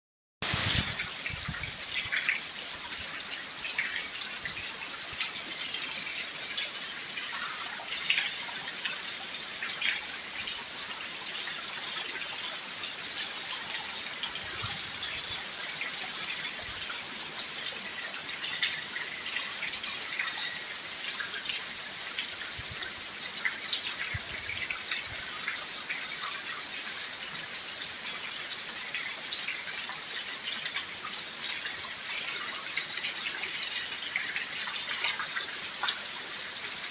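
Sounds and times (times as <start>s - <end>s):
steady rain falling: 0.4s - 36.9s.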